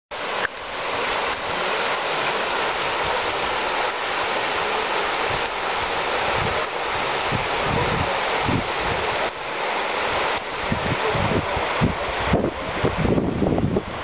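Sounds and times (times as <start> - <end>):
floodwater rushing: 0.1 - 14.0.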